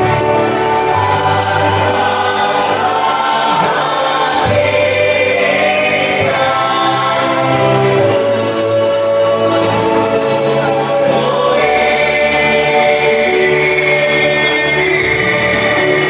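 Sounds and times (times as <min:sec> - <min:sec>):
vocal group singing in harmony: 0:00.0 - 0:16.0.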